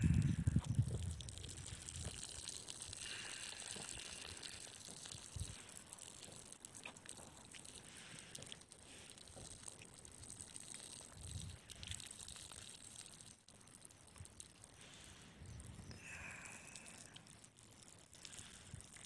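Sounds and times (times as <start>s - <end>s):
water lapping at lake edge: 0.0s - 15.4s.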